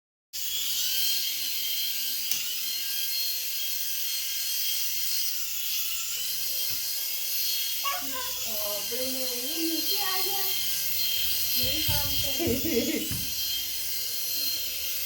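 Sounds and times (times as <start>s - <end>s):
toy helicopter rotor whirring: 0.4s - 15.0s.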